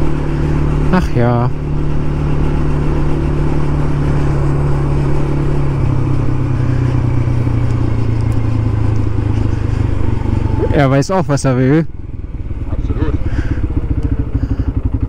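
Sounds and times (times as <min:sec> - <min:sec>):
quad engine running: 0:00.0 - 0:15.0
road and wind noise: 0:00.0 - 0:15.0.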